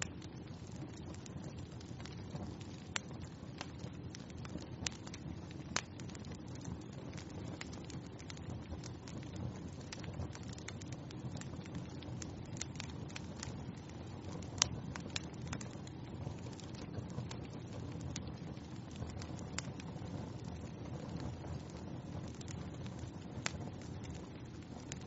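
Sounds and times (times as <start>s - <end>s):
low rush of flame: 0.0s - 25.0s
wood fire popping: 0.0s - 25.0s.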